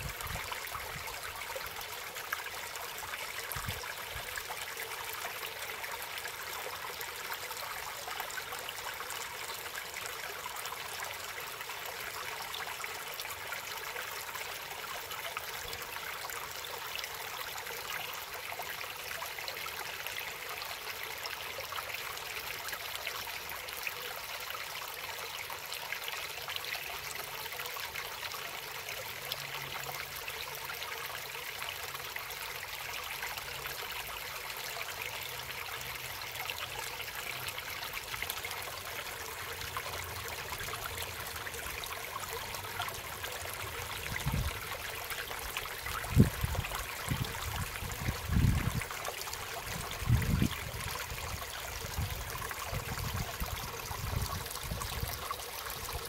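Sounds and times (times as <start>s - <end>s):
mountain stream trickling: 0.0s - 56.0s.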